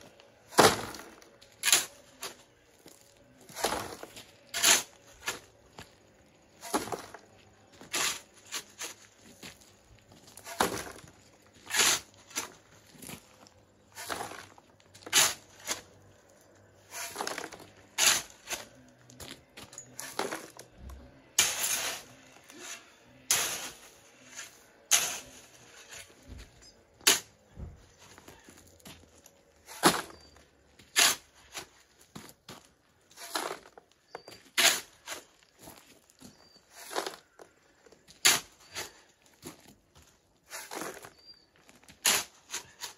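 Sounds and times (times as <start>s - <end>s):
shovel scraping into gravelly soil: 0.4s - 20.7s, 21.3s - 42.9s.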